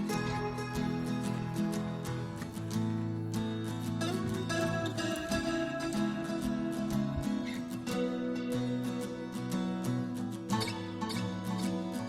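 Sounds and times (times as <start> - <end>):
music with chords and beat: 0.0 - 10.7.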